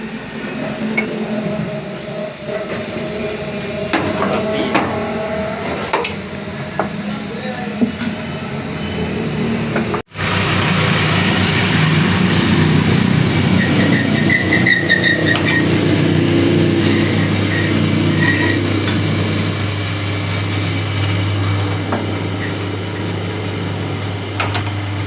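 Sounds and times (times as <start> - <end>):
machinery humming: 0.0 - 25.0.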